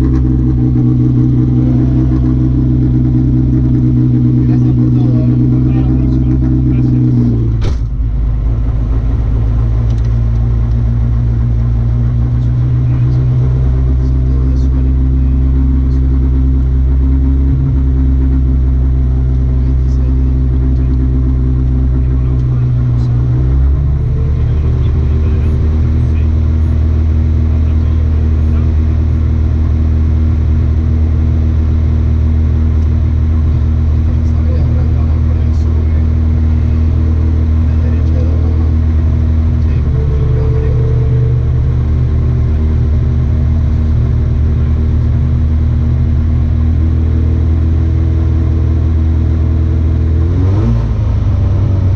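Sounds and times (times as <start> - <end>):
rally car engine running: 0.0 - 51.9.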